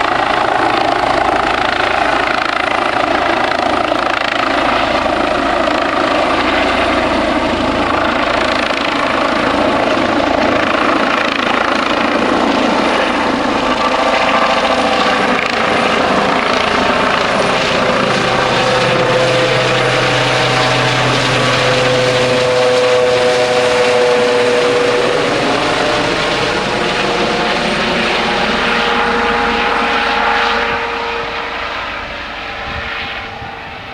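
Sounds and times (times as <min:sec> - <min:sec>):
helicopter rotor and turbine: 0:00.0 - 0:33.9.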